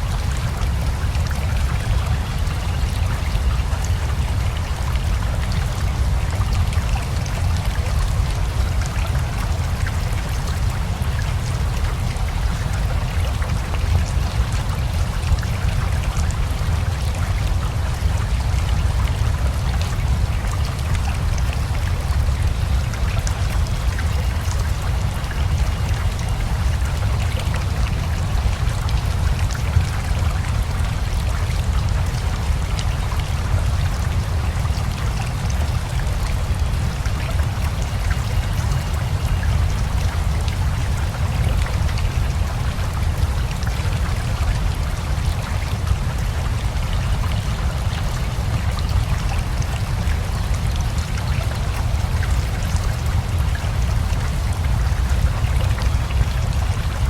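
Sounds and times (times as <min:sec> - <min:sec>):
rain drops ticking: 0:00.0 - 0:57.0.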